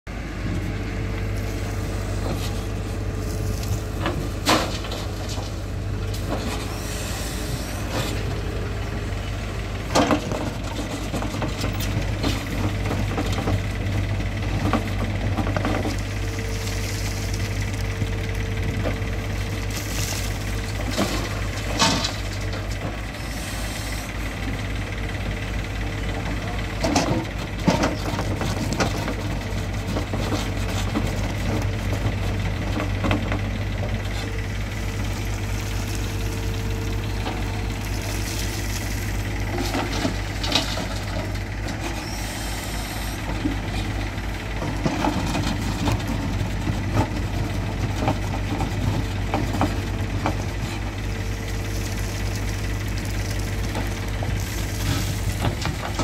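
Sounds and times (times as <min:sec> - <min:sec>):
diesel engine running under load: 0:00.1 - 0:56.0.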